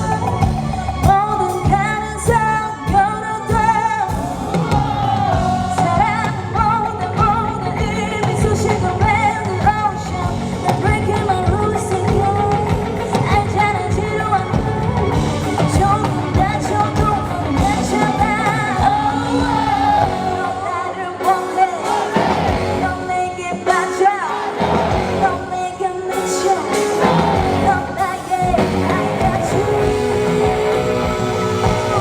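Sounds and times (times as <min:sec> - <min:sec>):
loud pop backing music: 0:00.0 - 0:32.0
woman singing with vibrato: 0:00.0 - 0:32.0.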